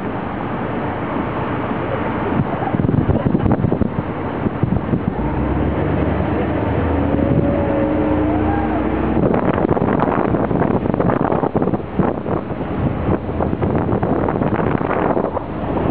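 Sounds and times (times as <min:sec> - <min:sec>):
motorboat engine running: 0:00.0 - 0:15.9
wind buffeting microphone: 0:00.0 - 0:15.9.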